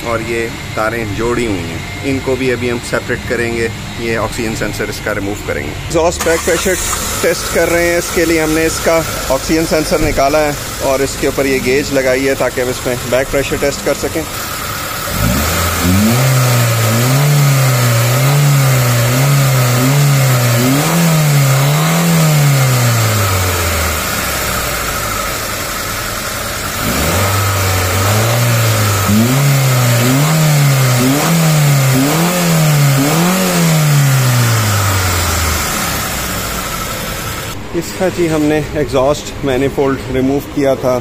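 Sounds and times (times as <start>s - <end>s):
car engine revving: 0.0s - 40.2s.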